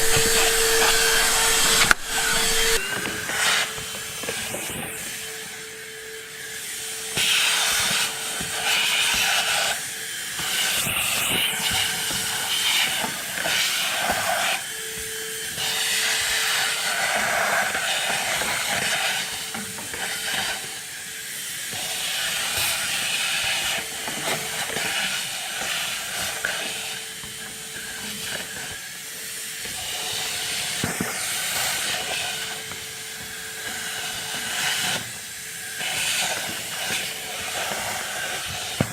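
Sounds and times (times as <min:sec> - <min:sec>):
handheld vacuum running: 0:00.0 - 0:38.9.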